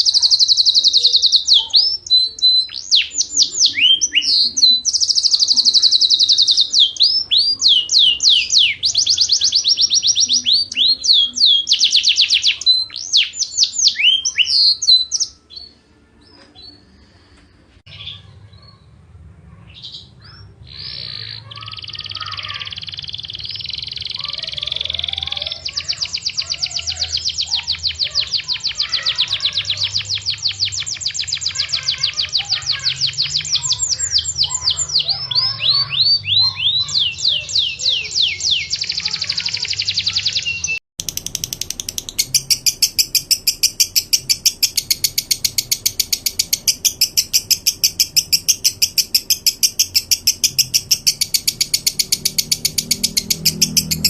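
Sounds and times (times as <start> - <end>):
fast rattling bird trill: 0.0 - 15.4, 20.8 - 54.0
songbird song with high trills: 0.0 - 18.9, 19.7 - 54.0.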